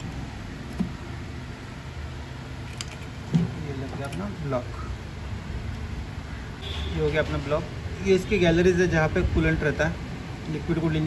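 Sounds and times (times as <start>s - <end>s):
low workshop hum: 0.0s - 11.0s.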